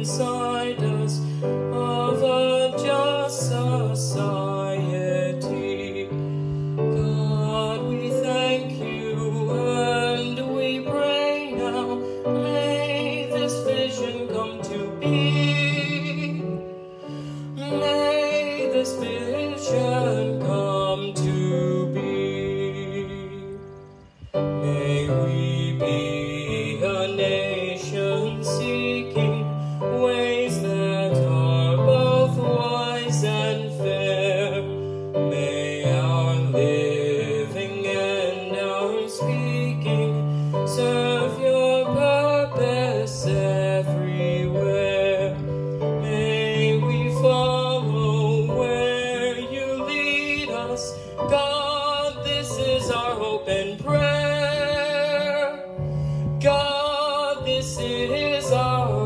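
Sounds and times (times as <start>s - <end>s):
electronic keyboard playing a hymn: 0.0s - 59.0s.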